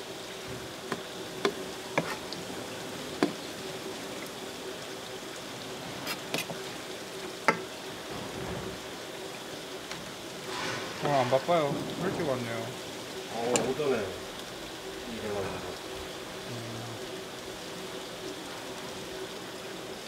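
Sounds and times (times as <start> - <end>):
faint steady hum: 0.0 - 20.0
steady hiss: 0.0 - 20.0.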